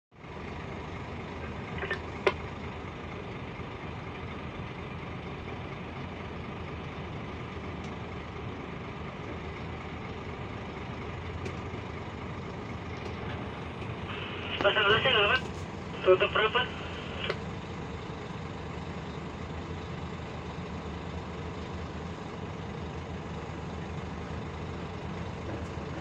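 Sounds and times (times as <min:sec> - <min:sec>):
truck diesel engine running: 0:00.1 - 0:26.0.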